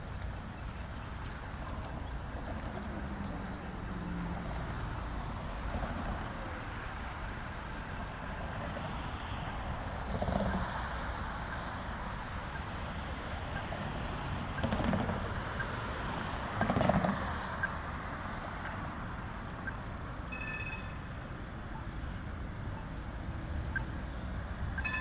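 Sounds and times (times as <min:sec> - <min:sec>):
low rumble of passing cars: 0:00.0 - 0:25.0.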